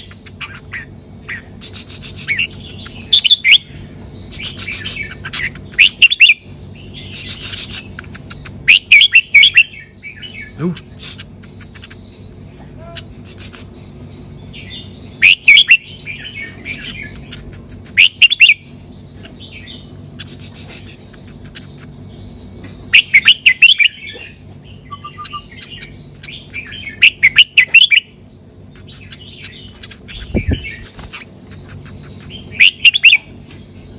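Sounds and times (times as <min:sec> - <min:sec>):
bird singing: 0:00.0 - 0:33.9
soft bird chirps: 0:00.0 - 0:33.9.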